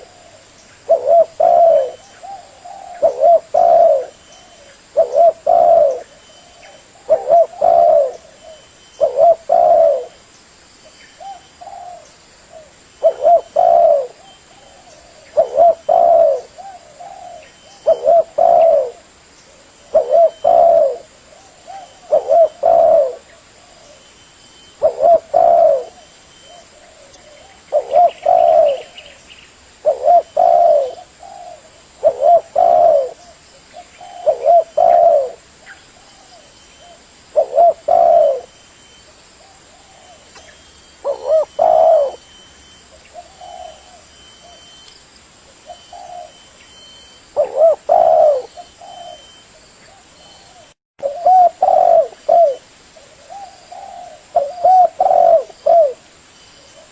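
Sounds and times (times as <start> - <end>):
dove cooing: 0.0 - 10.2, 11.2 - 29.2, 29.8 - 44.8, 45.6 - 56.9.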